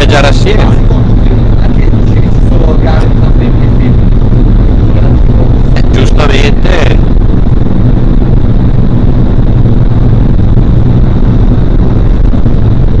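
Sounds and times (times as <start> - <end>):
low fan drone: 0.0 - 13.0
rushing airflow: 0.0 - 13.0.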